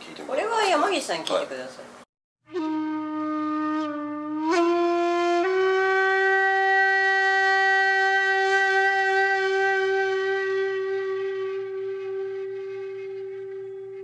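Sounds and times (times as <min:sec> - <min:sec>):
horn-like wind instrument note: 0:02.4 - 0:14.0.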